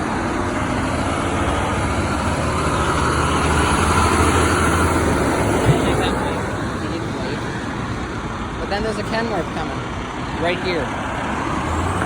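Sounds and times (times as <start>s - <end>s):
truck engine rumble passing: 0.0s - 12.0s.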